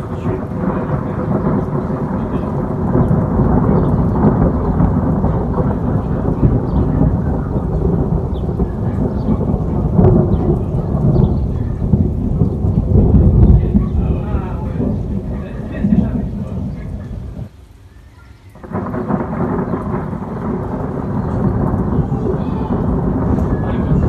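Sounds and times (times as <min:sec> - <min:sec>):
deep rolling thunder: 0:00.0 - 0:17.5, 0:18.5 - 0:24.0.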